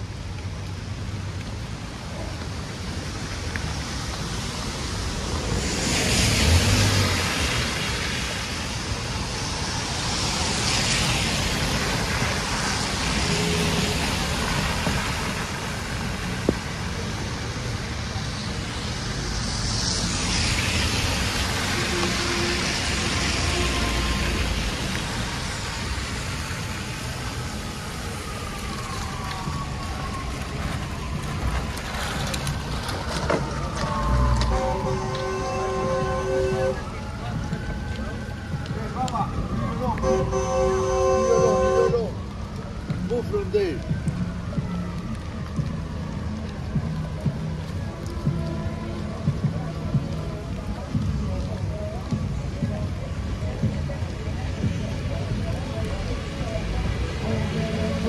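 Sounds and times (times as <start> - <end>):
traffic noise: 0.0 - 58.0
tyres hissing on wet road: 0.0 - 58.0.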